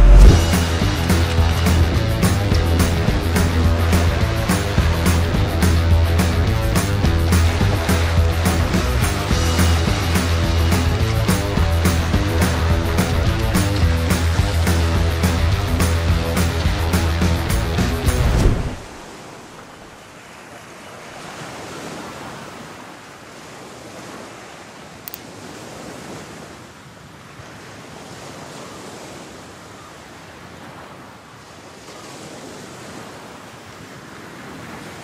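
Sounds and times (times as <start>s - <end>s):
ocean surf washing ashore: 0.0s - 35.0s.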